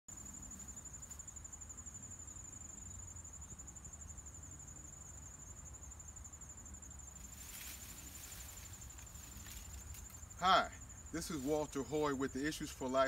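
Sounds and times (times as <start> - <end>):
insects trilling: 0.1 - 13.0.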